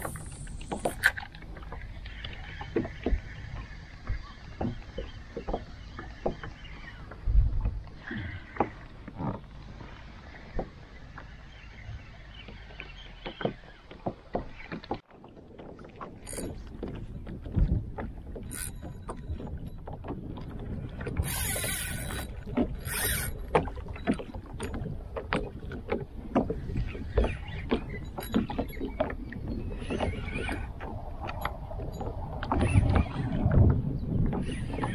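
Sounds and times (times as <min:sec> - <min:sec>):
water lapping against kayak hull: 0:00.0 - 0:34.9.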